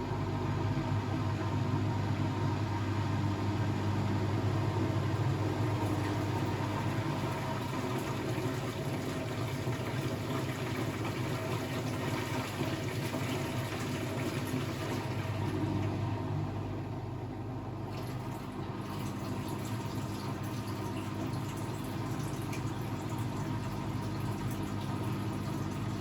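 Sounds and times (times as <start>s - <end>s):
washing machine running: 0.0s - 26.0s.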